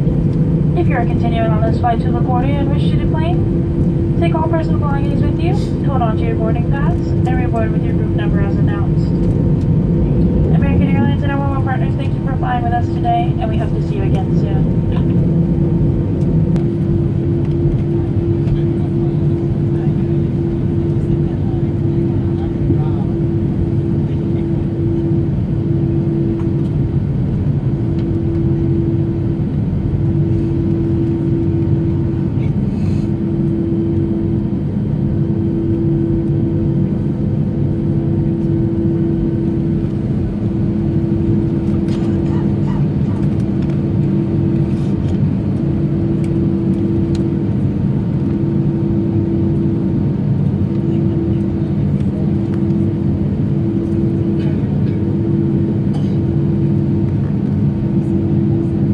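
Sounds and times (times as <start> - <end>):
jet airliner cabin rumble: 0.0 - 58.9.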